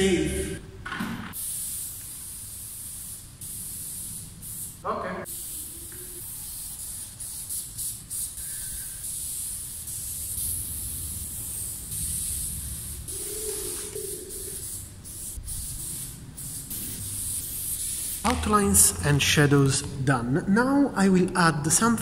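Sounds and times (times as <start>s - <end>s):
spray paint can hissing: 1.3s - 19.8s.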